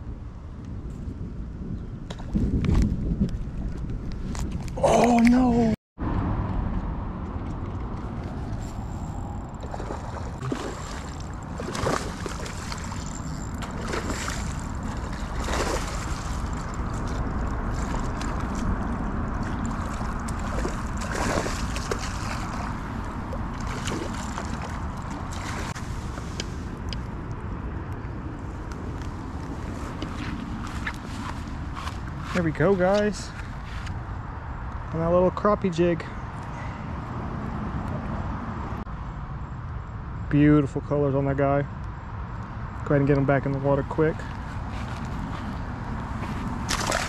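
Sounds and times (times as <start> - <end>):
wind rumble on microphone: 0.0 - 35.4, 41.9 - 47.0.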